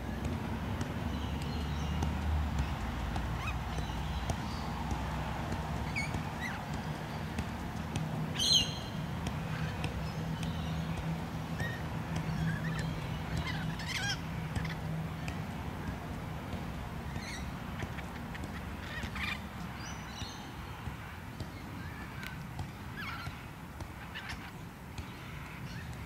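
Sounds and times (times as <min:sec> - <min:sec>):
birds calling: 0:01.0 - 0:07.5, 0:08.2 - 0:15.0, 0:17.1 - 0:26.0.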